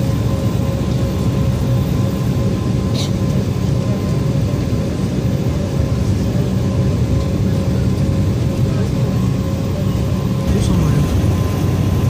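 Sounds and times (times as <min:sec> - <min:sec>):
airliner engines rumbling: 0:00.0 - 0:12.0
steady whine: 0:00.0 - 0:12.0.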